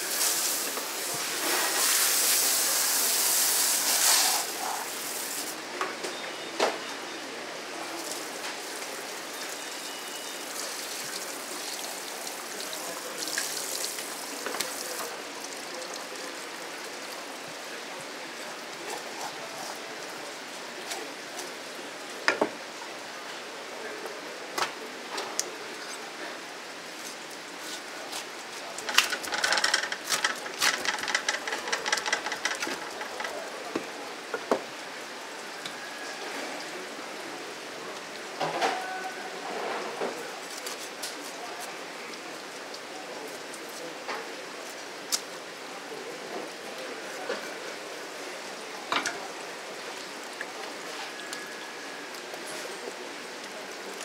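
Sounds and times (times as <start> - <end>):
running water: 0.0 - 5.7, 7.2 - 54.0.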